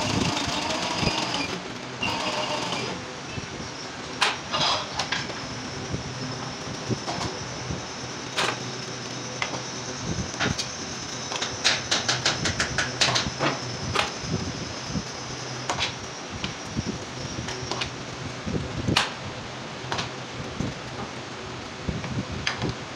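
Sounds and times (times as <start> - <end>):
machine hum with high whine: 0.0 - 22.9.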